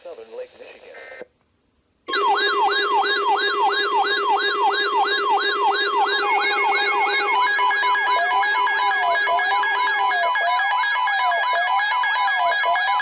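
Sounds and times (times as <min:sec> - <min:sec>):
beeping tones: 0:02.1 - 0:13.0
siren-like wail: 0:02.1 - 0:13.0
steady alarm tones: 0:02.1 - 0:13.0.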